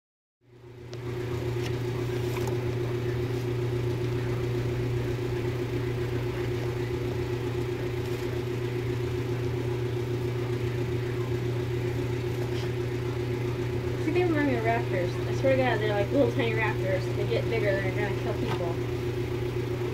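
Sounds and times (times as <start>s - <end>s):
low mechanical hum: 0.4s - 19.9s.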